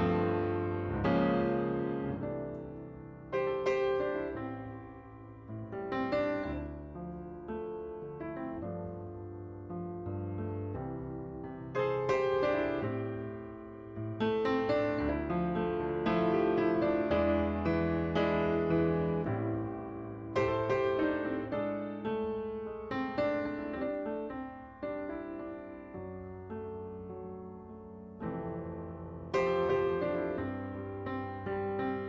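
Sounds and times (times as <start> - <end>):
gentle solo piano: 0.0 - 32.0.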